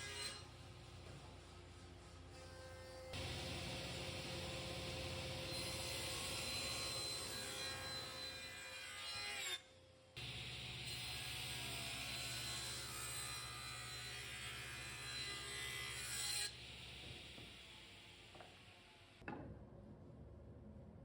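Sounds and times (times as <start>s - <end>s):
faint working sounds: 0.0s - 21.0s.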